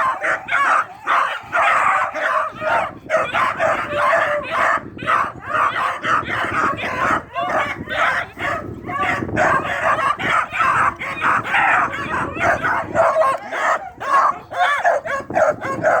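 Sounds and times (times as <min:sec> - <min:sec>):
hound puppies yelping: 0:00.0 - 0:16.0.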